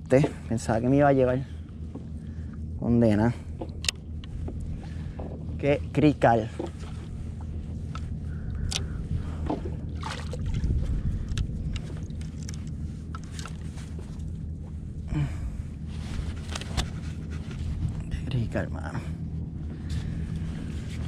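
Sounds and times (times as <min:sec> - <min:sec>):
water lapping against plastic hull: 0:00.0 - 0:18.1
low steady rumble: 0:00.0 - 0:21.0.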